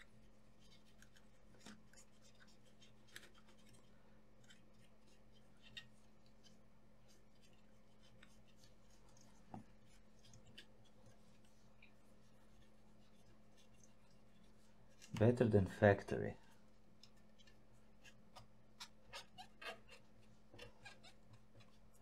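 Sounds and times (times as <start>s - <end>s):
cotton swab scrubbing: 0.0s - 15.5s, 16.5s - 22.0s
soft ticks and scratches: 0.0s - 22.0s.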